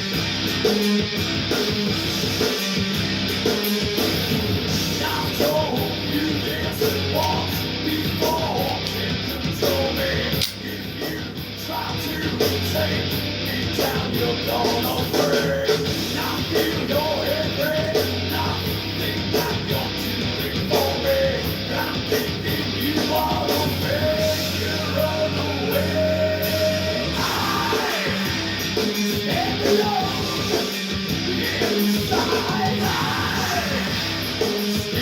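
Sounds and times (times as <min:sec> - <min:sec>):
rock music with sung vocal: 0:00.0 - 0:35.0.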